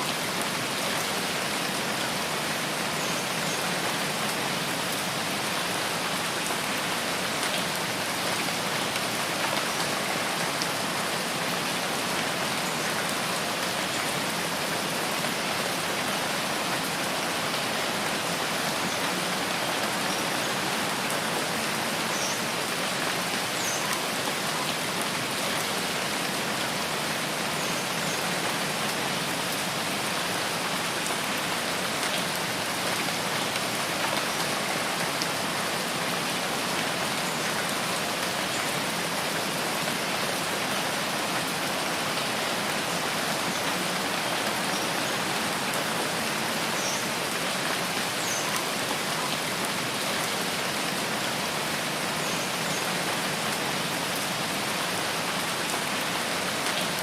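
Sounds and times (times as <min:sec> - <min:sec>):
rain on forest canopy: 0:00.0 - 0:57.0.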